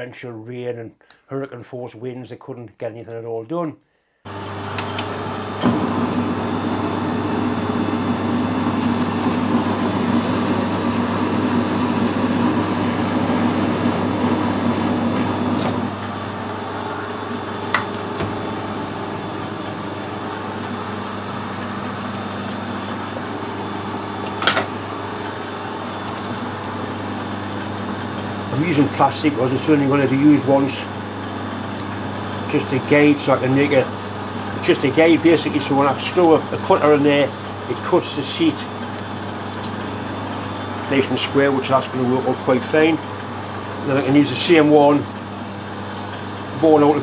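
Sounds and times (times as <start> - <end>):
machine tool motor humming: 4.3 - 47.0.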